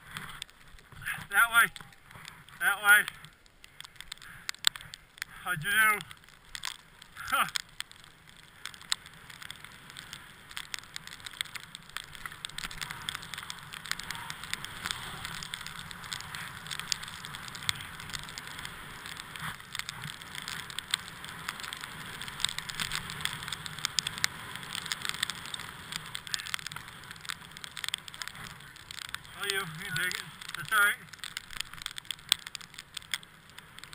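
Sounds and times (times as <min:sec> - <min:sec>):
small crackling clicks: 0:00.0 - 0:33.9.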